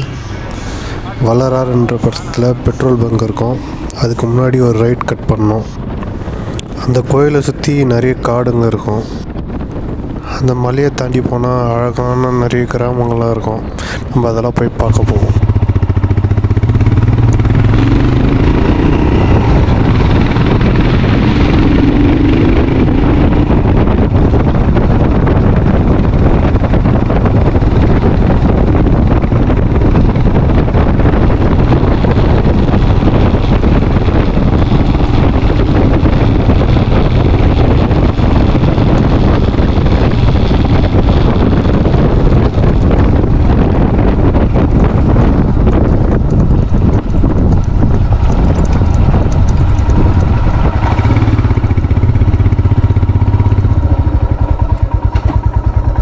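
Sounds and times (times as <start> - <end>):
vehicle engine running: 0.0 - 8.3, 12.7 - 56.0
wind rushing over microphone: 0.0 - 56.0.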